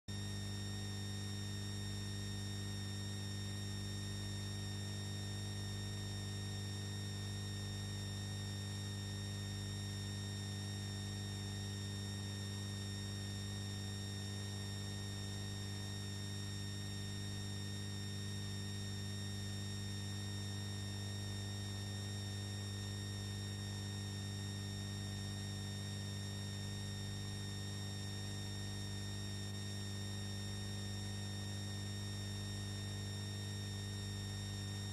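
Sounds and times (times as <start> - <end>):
electrical mains hum: 0.1 - 34.9.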